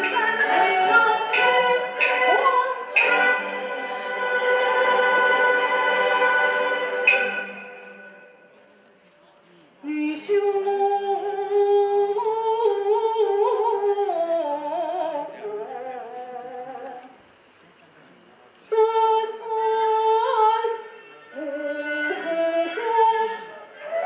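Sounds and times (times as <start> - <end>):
woman singing opera: 0.0 - 7.5, 9.8 - 17.2, 18.7 - 24.0.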